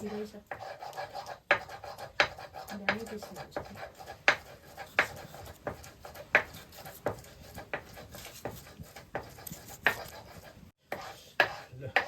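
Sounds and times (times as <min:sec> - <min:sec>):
knife chopping on cutting board: 0:00.5 - 0:10.3, 0:10.9 - 0:12.0.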